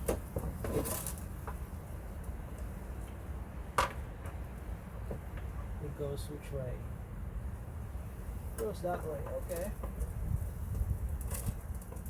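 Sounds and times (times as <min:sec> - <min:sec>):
rustle: 0:00.0 - 0:06.7, 0:07.4 - 0:12.0.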